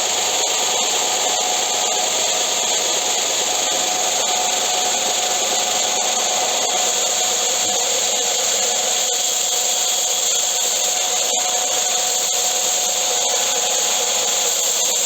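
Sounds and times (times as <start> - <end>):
belt sander running: 0.0 - 15.0.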